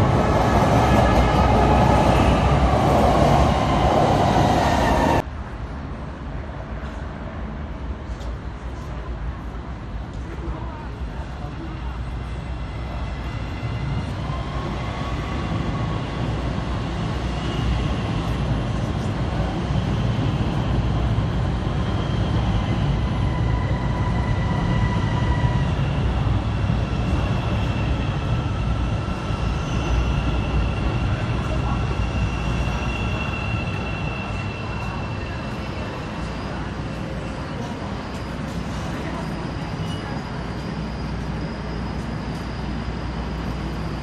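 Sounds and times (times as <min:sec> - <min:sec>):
train wheels rumbling on rail: 0:06.3 - 0:44.0.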